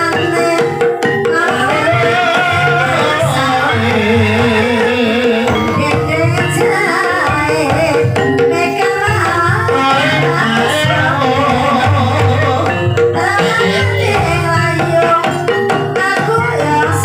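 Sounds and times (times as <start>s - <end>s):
gamelan-style ensemble: 0.0s - 17.0s
hand drums: 0.0s - 17.0s
person singing wavering melody: 0.0s - 17.0s.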